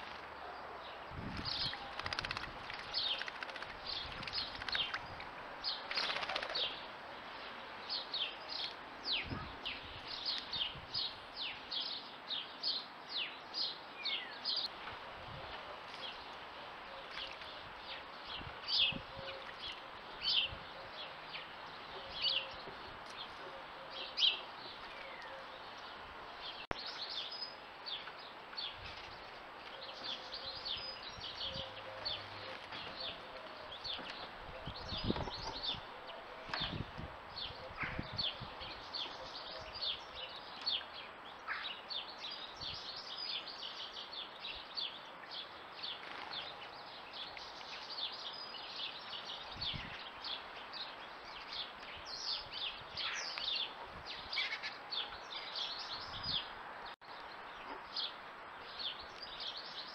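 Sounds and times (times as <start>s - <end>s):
faint outdoor hiss: 0.0s - 59.9s
songbirds chirping: 0.0s - 59.9s.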